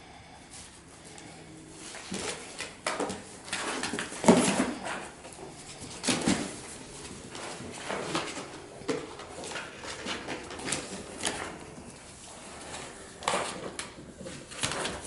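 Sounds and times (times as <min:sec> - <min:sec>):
paws scratching cardboard: 0:01.8 - 0:15.0.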